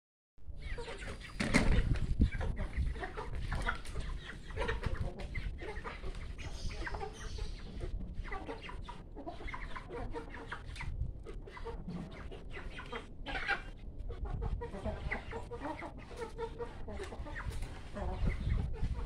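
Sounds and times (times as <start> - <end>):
chickens clucking and calling: 0.5 - 19.0.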